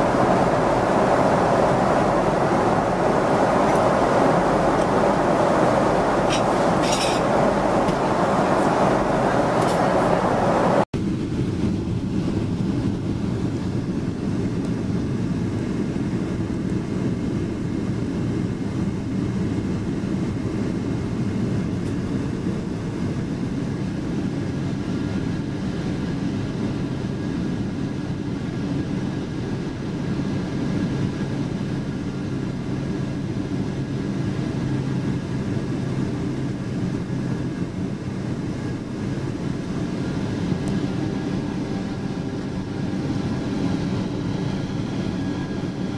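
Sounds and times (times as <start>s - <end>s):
airliner cabin drone: 0.0s - 45.9s.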